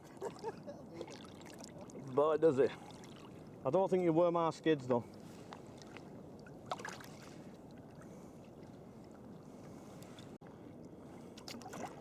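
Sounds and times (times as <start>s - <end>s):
paddle splashes and drips: 0.1s - 3.7s, 5.0s - 12.0s.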